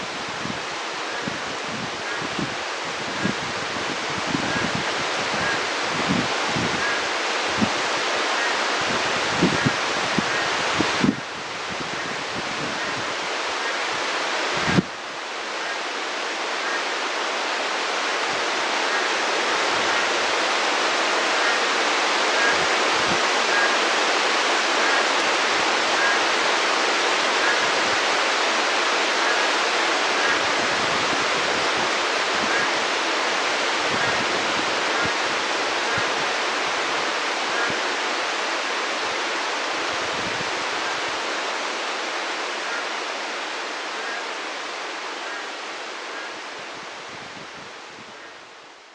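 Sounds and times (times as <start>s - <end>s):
heavy rain hissing: 0.0s - 48.9s.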